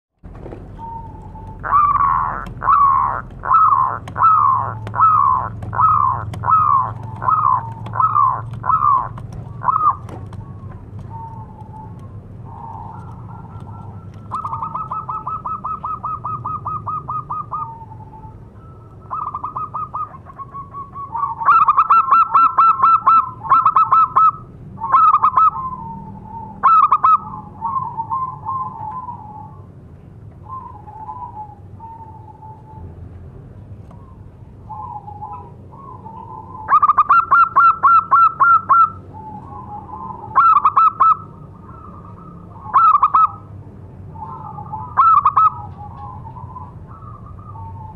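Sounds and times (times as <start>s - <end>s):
dove cooing and trilling: 0.7s - 29.8s, 30.4s - 32.9s, 33.9s - 47.9s.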